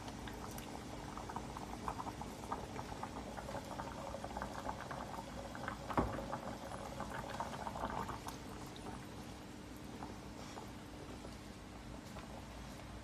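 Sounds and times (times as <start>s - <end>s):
broth bubbling in a pan: 0.0s - 13.0s.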